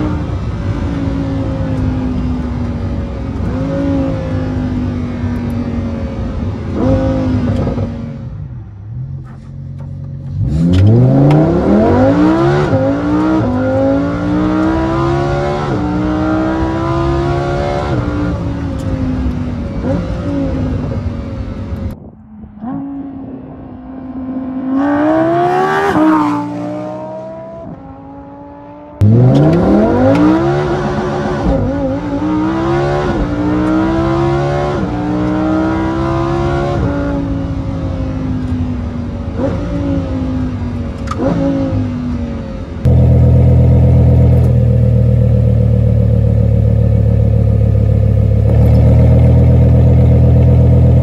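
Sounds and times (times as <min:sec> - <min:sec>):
sports car engine with upshifts: 0:00.0 - 0:51.0.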